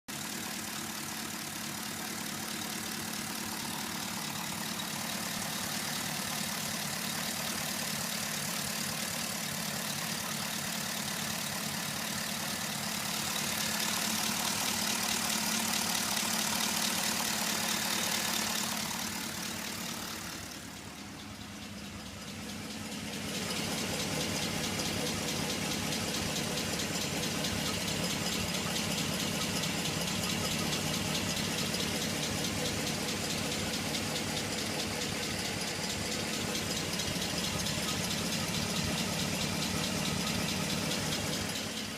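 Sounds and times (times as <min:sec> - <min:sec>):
car engine idling: 0:00.1 - 0:41.9
fast valvetrain ticking: 0:00.1 - 0:41.9.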